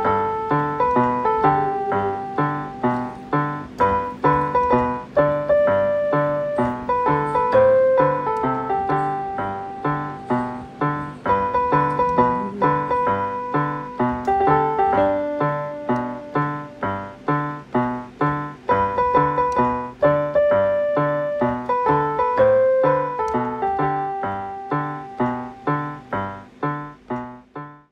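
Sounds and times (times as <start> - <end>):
gentle music of struck notes: 0.0 - 27.9.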